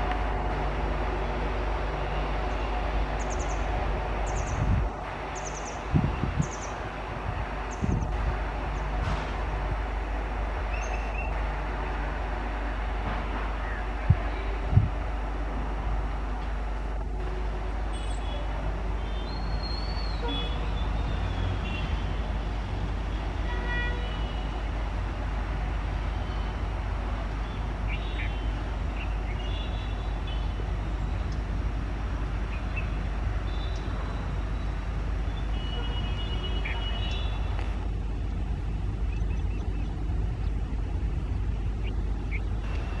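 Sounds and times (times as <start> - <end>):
motorbike traffic rumble: 0.0 - 43.0.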